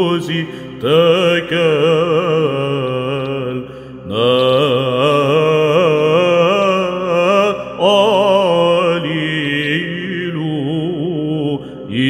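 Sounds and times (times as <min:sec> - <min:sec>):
solo voice chanting: 0:00.0 - 0:12.0.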